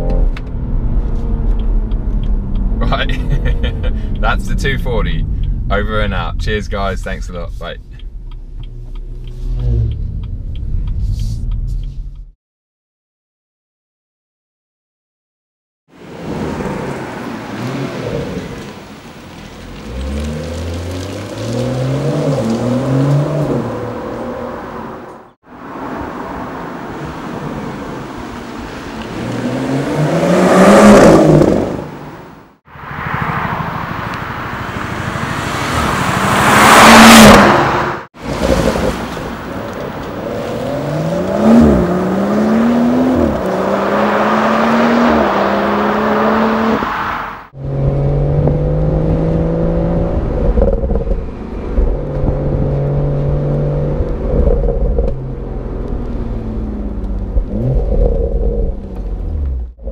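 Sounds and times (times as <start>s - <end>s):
car engine accelerating hard: 0.0s - 11.6s, 19.4s - 25.0s, 25.8s - 32.0s, 33.0s - 59.9s.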